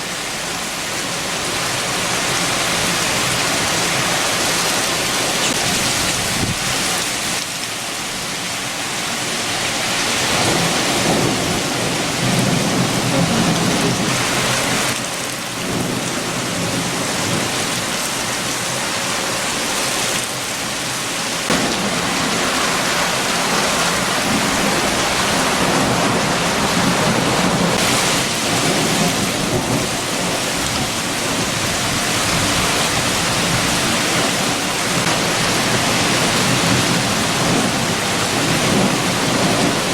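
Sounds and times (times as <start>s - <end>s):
heavy rain falling: 0.0s - 39.9s
strong wind: 0.3s - 7.5s, 9.2s - 39.9s.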